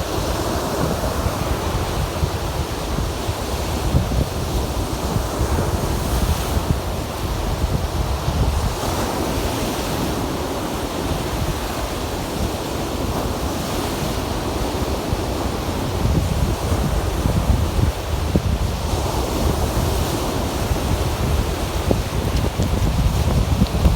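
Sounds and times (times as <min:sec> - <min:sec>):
waves washing on shore: 0:00.0 - 0:23.9
wind buffeting microphone: 0:00.0 - 0:23.9.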